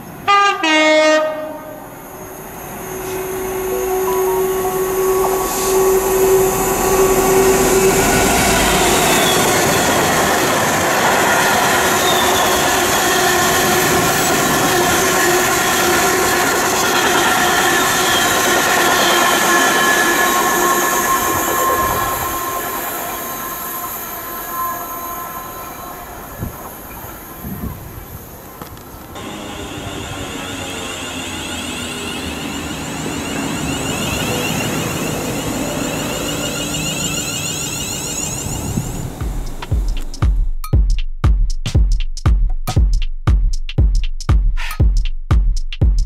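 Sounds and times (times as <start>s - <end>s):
freight train rumble: 0.0s - 40.6s
high ringing wheel squeal: 1.8s - 28.6s, 29.2s - 39.2s.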